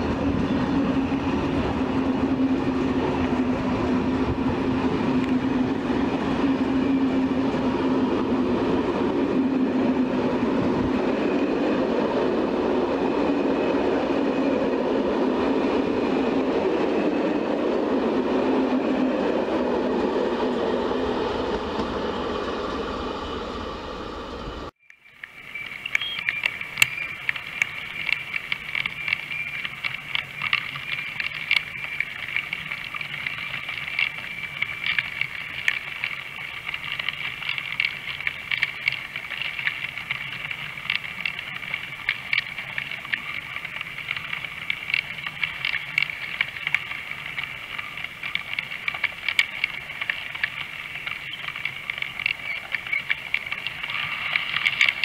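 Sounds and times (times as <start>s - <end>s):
wheels clicking over rail joints: 0.0s - 22.4s, 24.4s - 55.0s.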